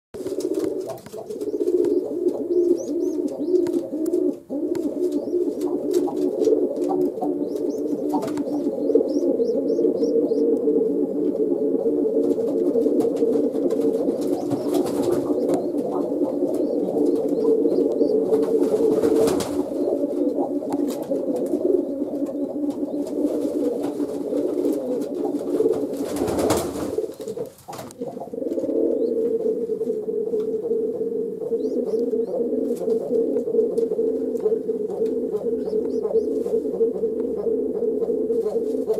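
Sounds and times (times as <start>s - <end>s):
pigeons cooing: 0.2s - 38.9s.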